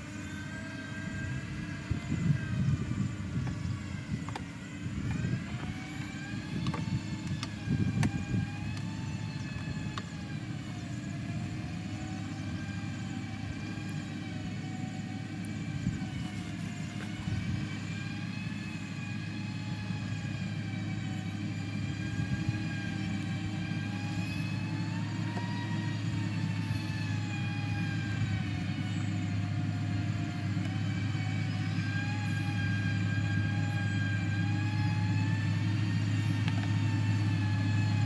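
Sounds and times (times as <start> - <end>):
diesel engine droning under load: 0.0 - 38.0.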